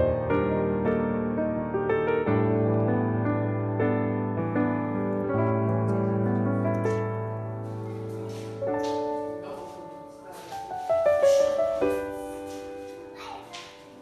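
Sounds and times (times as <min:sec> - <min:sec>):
soft slow piano music: 0:00.0 - 0:14.0.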